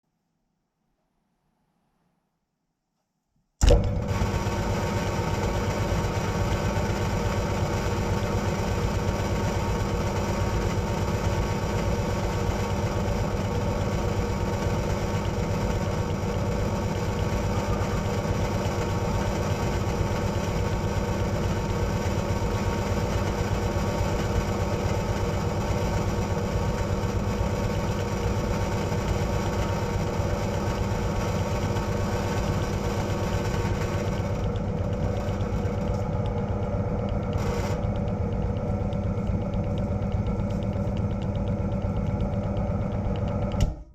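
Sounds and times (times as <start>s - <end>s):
bench drill motor hum: 3.6s - 43.8s.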